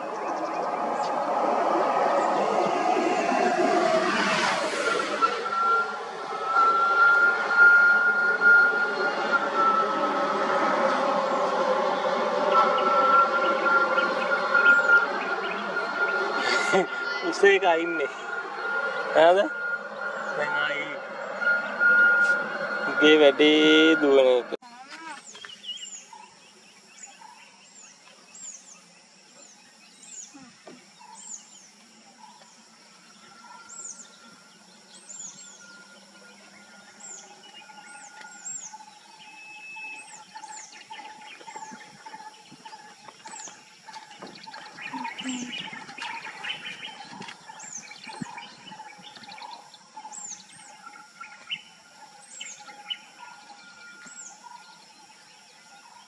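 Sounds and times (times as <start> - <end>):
steady high drone: 0.0 - 24.6, 25.8 - 56.0
birds chirping: 0.0 - 56.0.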